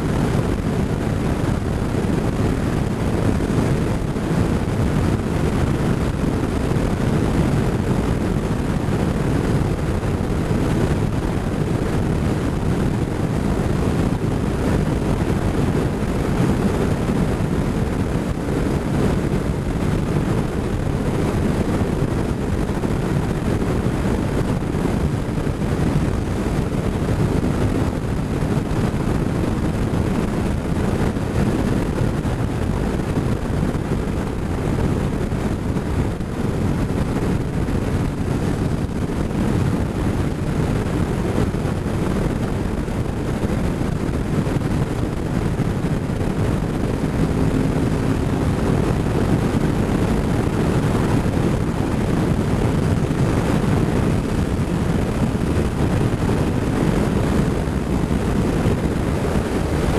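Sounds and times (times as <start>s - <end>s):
motorcycle engine: 0.0s - 59.9s
road noise: 0.0s - 59.9s
wind rumble on microphone: 0.0s - 59.9s.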